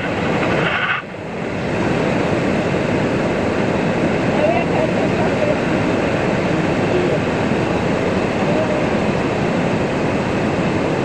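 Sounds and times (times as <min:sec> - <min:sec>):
waterfall and rushing river: 0:00.0 - 0:11.0.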